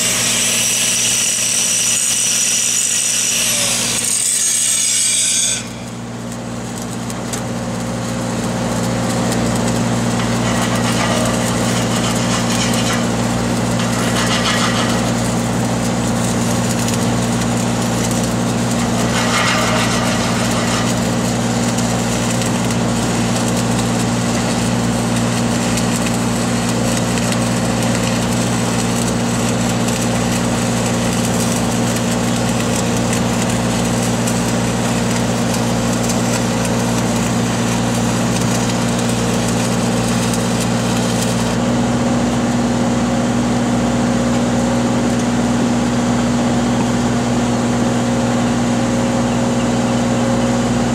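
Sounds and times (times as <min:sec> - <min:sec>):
welding machine engine running: 0:00.0 - 0:50.9.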